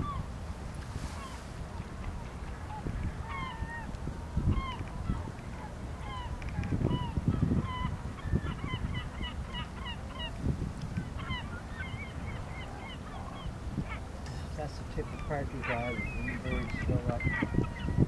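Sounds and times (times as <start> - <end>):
gulls calling: 0.0 - 0.4, 1.0 - 18.0.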